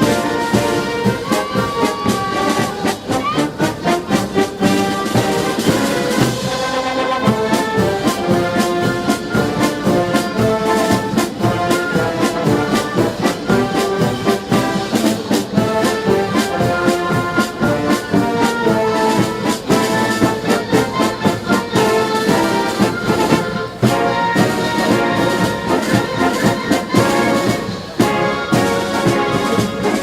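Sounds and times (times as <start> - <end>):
drum beats: 0.0 - 30.0
trombones and trumpets: 0.0 - 30.0.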